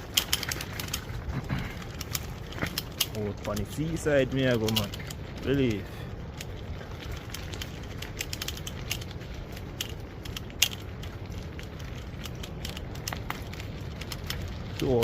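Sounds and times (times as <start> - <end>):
crackling clicks: 0.0 - 15.0
wind rumbling on microphone: 0.0 - 15.0.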